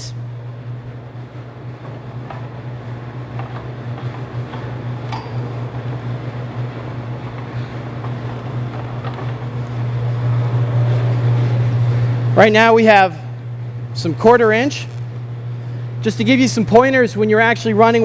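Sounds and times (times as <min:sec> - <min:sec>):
wire stripping machine humming: 0:00.0 - 0:18.0.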